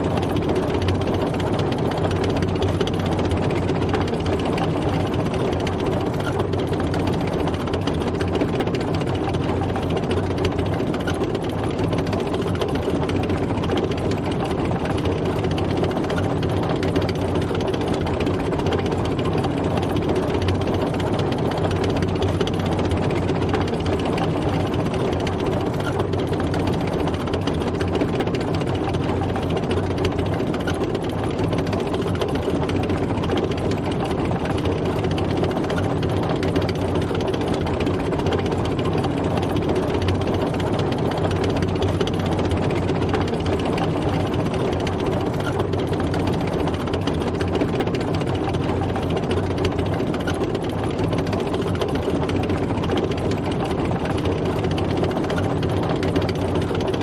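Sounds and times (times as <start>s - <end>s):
tank engine running: 0.0s - 57.0s
tracks rattling and clattering: 0.0s - 57.0s.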